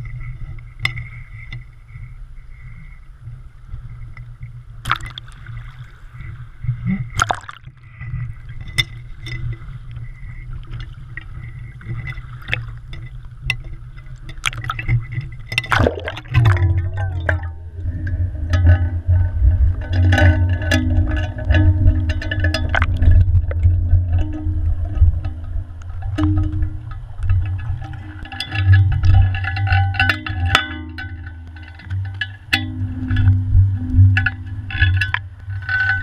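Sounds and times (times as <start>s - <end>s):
underwater rumble and gurgling: 0.0s - 36.0s
water splashing: 4.8s - 36.0s.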